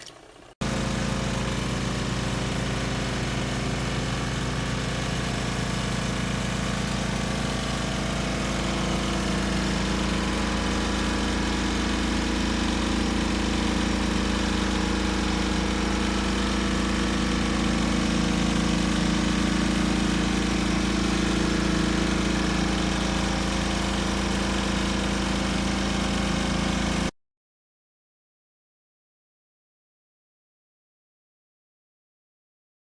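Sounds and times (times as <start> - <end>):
spin-dryer motor hum: 0.0 - 27.1.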